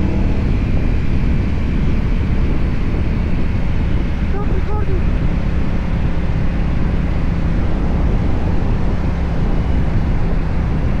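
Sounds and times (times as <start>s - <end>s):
motorcycle engine running: 0.0s - 11.0s
steady rush of noise: 0.0s - 11.0s.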